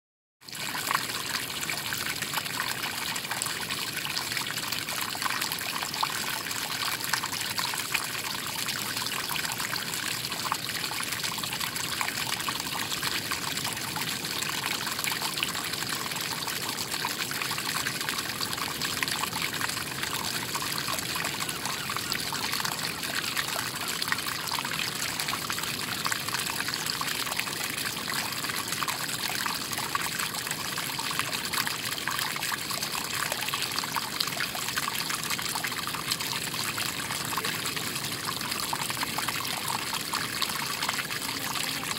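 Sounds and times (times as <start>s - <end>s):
water trickling over pebbles: 0.4s - 41.9s.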